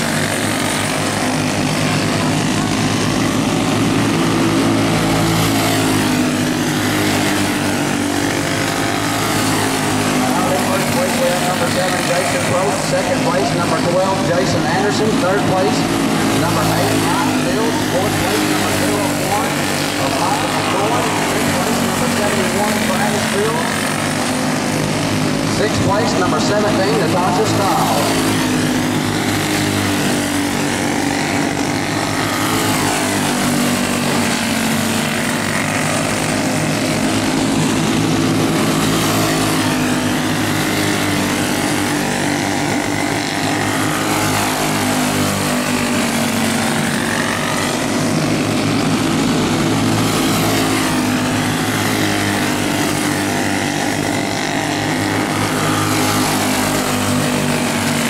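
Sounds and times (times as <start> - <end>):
go-kart engines droning: 0.0 - 58.0.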